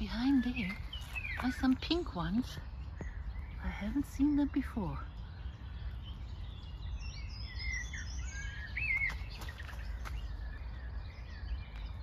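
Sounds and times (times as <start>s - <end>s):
songbirds singing: 0.0s - 12.0s
steady low rumble: 0.0s - 12.0s.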